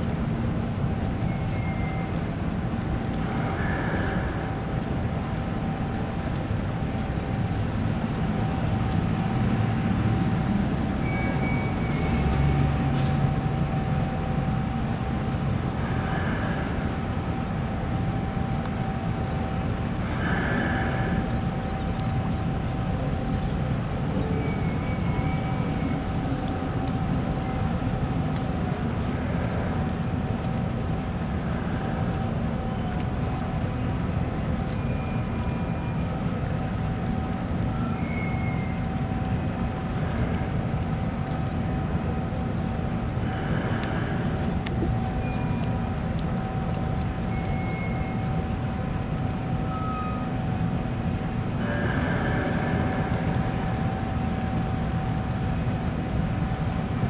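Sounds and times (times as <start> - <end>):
low machinery rumble: 0.0 - 57.0
thin constant whine: 0.0 - 57.0.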